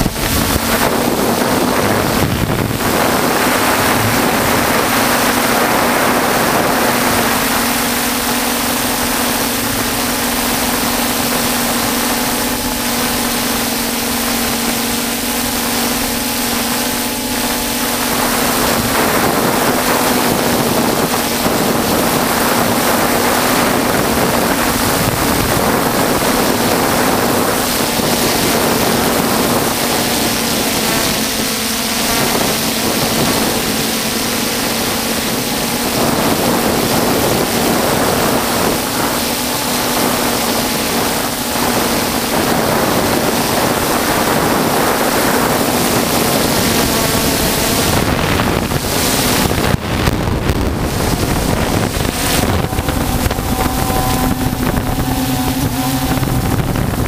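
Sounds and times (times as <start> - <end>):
drone motors humming: 0.0 - 57.0
wind on microphone: 0.0 - 57.0.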